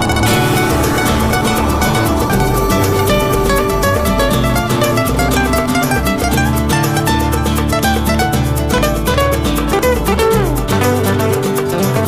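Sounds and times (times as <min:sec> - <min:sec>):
fast plucked-string music with beat: 0:00.0 - 0:12.0.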